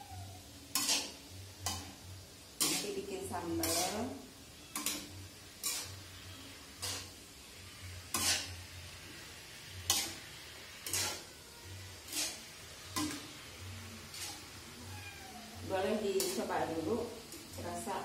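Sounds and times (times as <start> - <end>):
faint frying sizzle: 0.0 - 18.0
metal spatula scraping a wok: 0.3 - 18.0.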